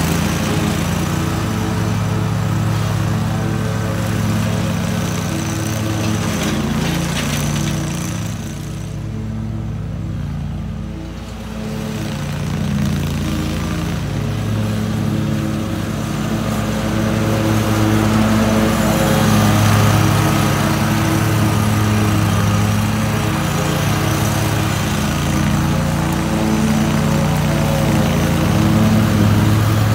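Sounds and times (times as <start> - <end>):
riding mower engine running: 0.0 - 29.9.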